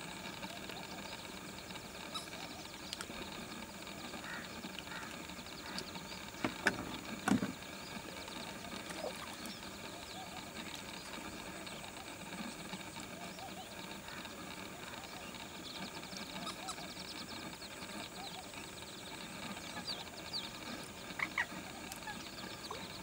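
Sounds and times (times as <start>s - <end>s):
ducklings peeping: 0.1s - 23.0s.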